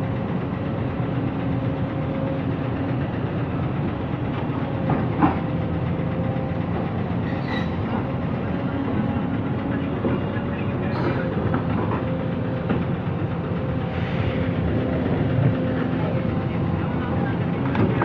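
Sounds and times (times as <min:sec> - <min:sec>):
heavy diesel engines running: 0:00.0 - 0:18.0.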